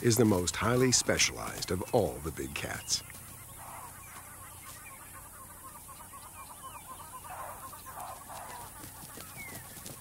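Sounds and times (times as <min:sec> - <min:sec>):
birds clucking: 0:00.0 - 0:10.0
rasping bird calls: 0:00.6 - 0:10.0.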